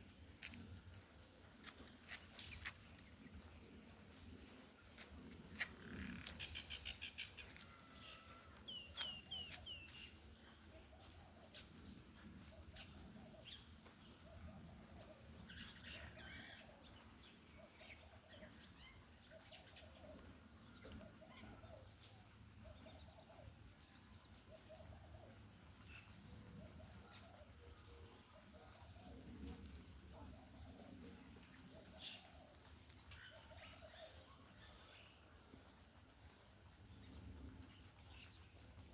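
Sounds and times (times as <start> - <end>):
faint birds chirping: 0.0 - 38.9.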